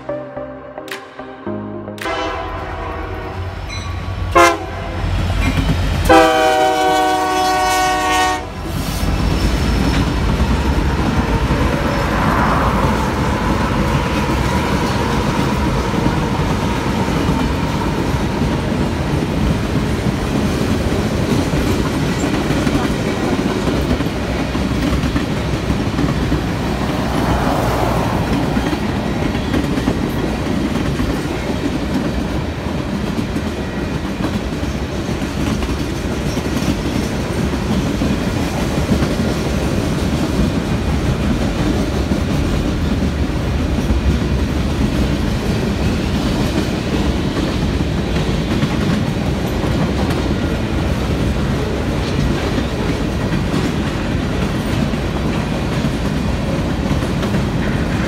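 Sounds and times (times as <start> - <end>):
train wheels rumbling on rails: 3.1 - 58.0.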